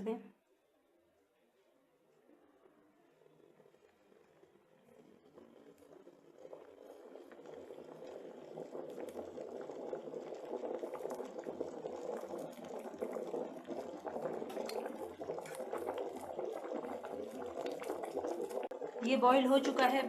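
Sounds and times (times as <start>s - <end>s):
soup boiling in a kettle: 2.0s - 20.0s.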